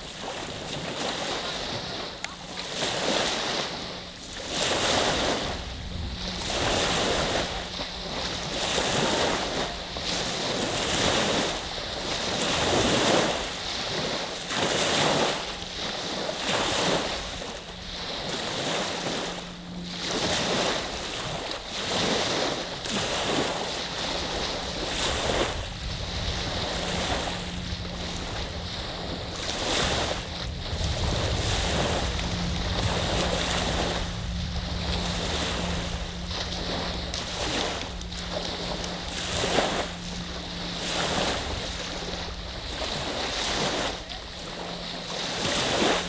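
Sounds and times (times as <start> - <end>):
lake waves rolling onto beach: 0.0 - 46.0.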